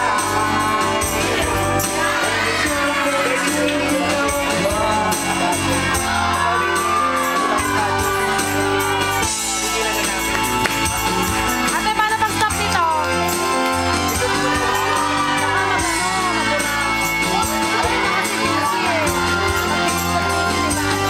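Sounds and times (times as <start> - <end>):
karaoke backing track: 0.0 - 21.0
person singing: 0.0 - 21.0.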